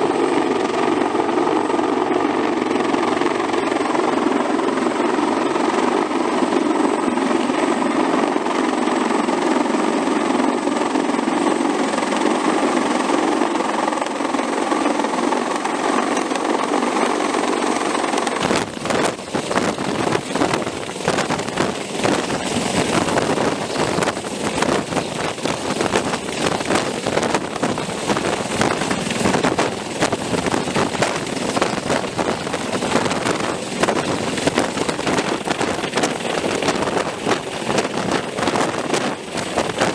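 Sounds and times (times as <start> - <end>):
helicopter engine and rotor drone: 0.0 - 39.9
rotor wash buffeting microphone: 0.0 - 39.9.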